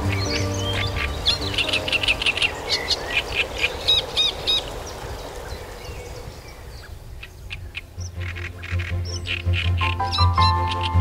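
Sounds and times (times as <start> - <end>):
warbler singing harsh notes: 0.0 - 11.0.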